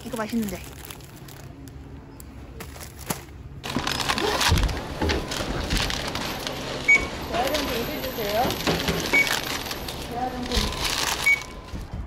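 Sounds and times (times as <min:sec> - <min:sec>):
packaging rustling and crinkling: 0:00.0 - 0:01.8, 0:02.6 - 0:11.9.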